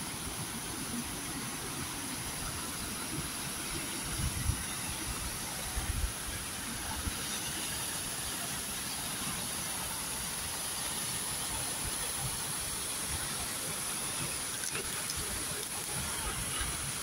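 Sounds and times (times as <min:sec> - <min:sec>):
mountain stream rushing: 0:00.0 - 0:17.0
waterfall splashing into pool: 0:00.0 - 0:17.0.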